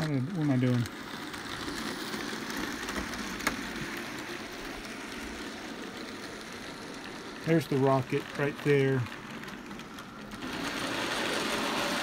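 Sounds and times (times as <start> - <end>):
model train whirring and rattling: 0.0 - 12.0.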